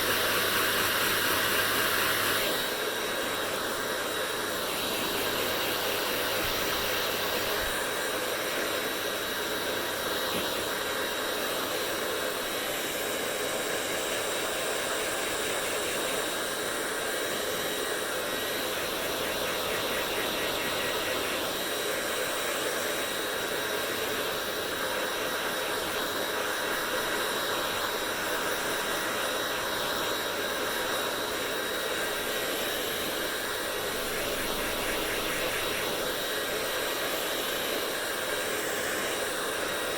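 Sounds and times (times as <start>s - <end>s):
hair dryer blowing: 0.0s - 39.9s
thin high whine: 0.0s - 39.9s.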